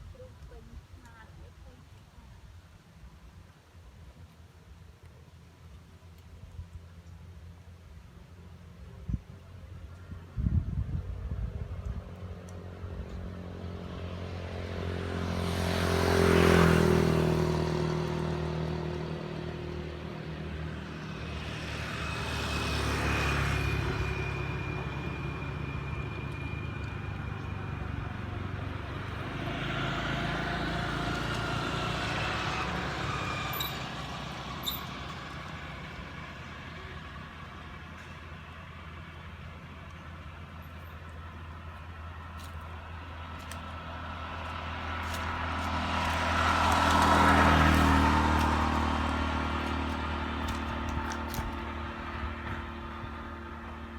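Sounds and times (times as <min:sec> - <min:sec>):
vehicles passing: 0:06.8 - 0:53.9.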